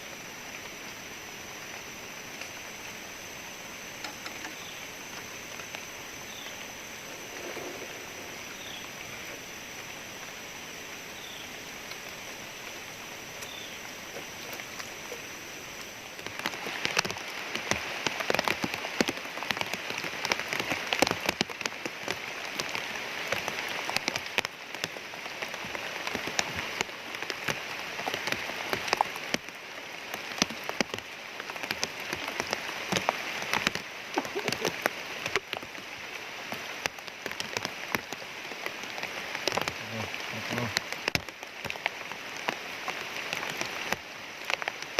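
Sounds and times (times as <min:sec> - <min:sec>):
rain patter: 0:00.0 - 0:44.9.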